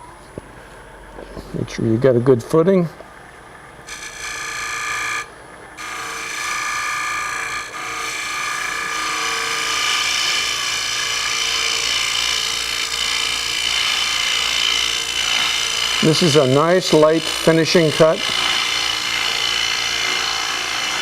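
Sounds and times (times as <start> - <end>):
wood lathe cutting hiss: 3.9 - 21.0.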